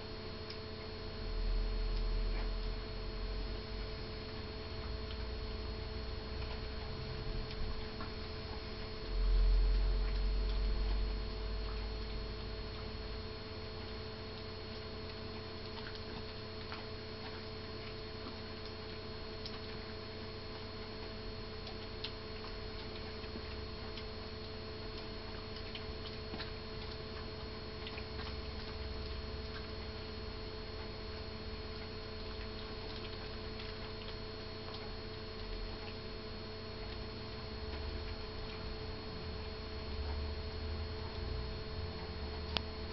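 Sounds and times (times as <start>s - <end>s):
steady electrical hum: 0.0s - 42.9s
dog gnawing a chew: 1.9s - 41.4s.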